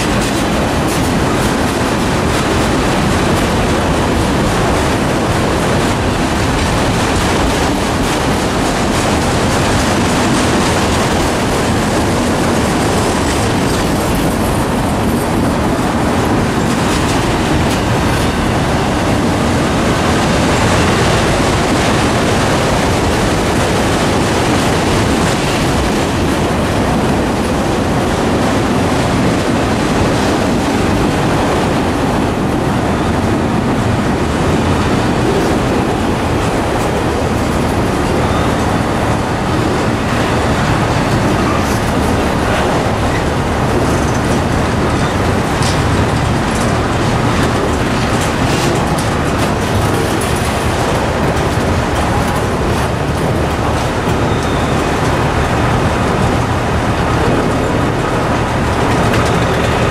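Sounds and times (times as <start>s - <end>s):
freight train wheels on rails: 0.0s - 59.9s.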